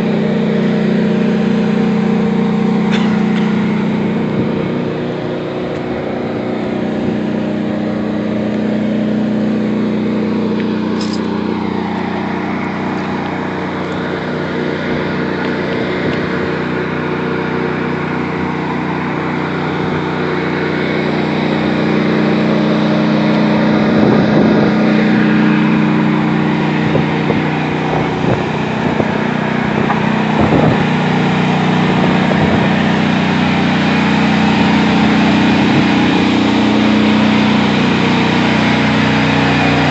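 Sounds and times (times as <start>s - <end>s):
tank engine running: 0.0s - 39.9s.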